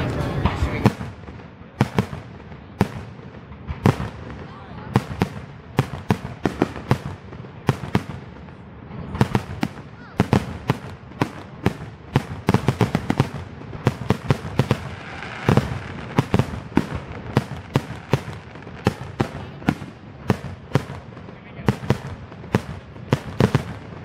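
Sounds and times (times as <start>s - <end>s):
fireworks bursting bangs: 0.0s - 24.0s.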